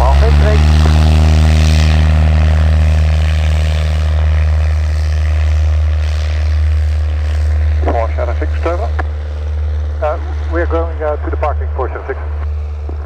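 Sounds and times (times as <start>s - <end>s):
small plane engine droning: 0.0s - 13.0s.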